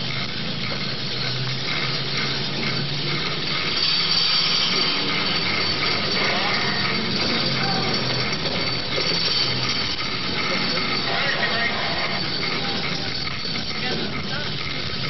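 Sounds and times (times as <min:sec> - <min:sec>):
chairlift machinery rushing hum: 0:00.0 - 0:15.0
thin high tone: 0:00.0 - 0:15.0.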